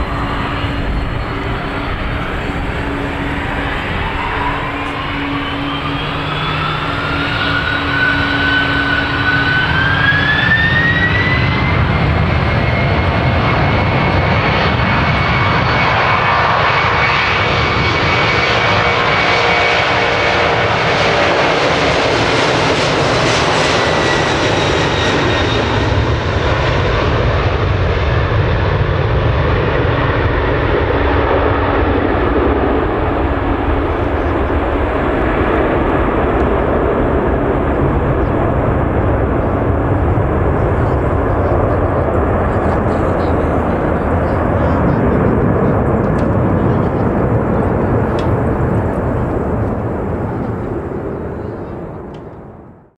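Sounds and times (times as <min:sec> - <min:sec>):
jet engines spooling up whine: 0:00.0 - 0:52.9
jet roar: 0:00.0 - 0:52.9.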